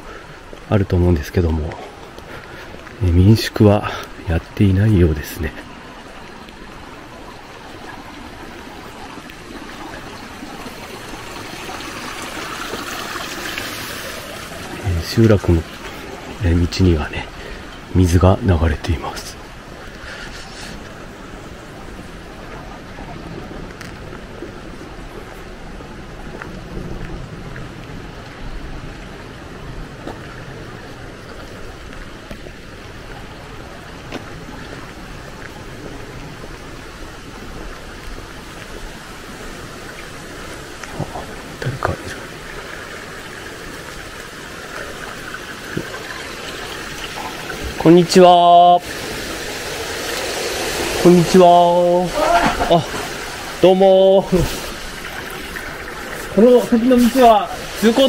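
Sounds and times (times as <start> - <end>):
water trickling over pavement: 0.0 - 58.0.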